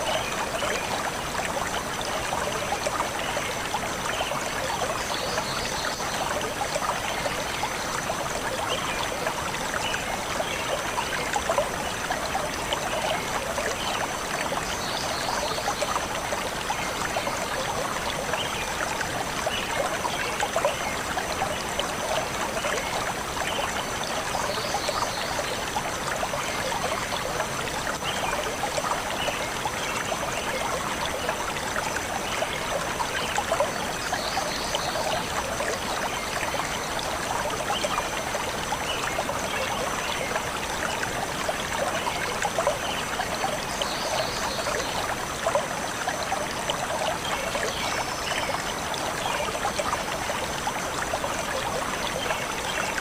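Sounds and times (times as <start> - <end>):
stream flowing over stones: 0.0 - 53.0.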